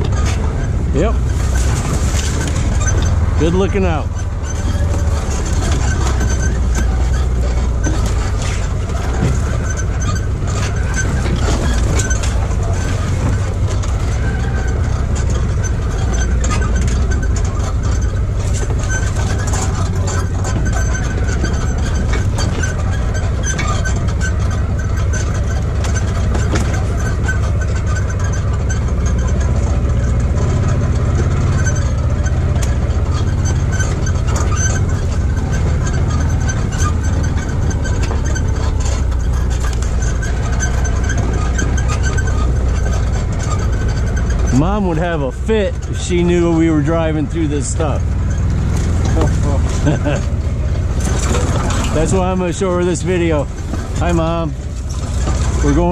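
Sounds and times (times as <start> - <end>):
utility vehicle engine running: 0.0 - 55.9
vehicle rattles and knocks: 0.0 - 55.9.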